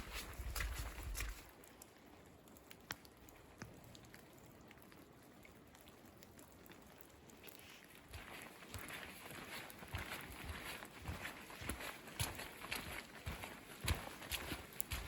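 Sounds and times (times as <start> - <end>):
raindrops dripping: 0.0 - 15.0.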